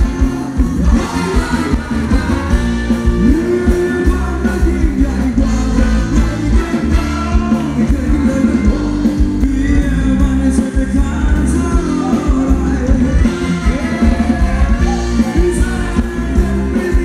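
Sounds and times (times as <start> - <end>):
live dance band playing: 0.0 - 17.0
person singing: 0.0 - 17.0.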